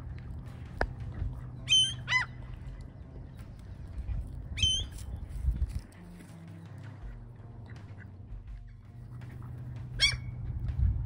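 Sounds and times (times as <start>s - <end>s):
birds calling: 0.0s - 10.5s
low background rumble: 0.0s - 11.0s.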